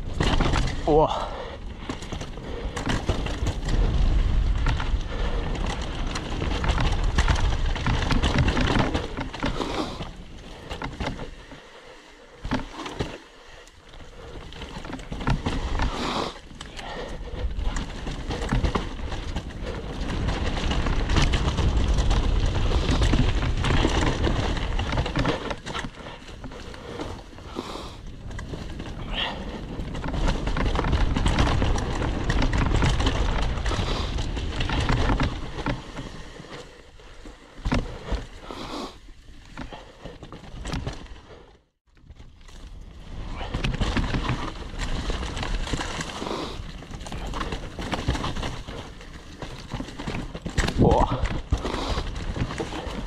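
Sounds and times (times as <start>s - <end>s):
bike rattling over bumps: 0.0s - 53.0s
bike tyres rolling over dirt: 0.0s - 53.0s.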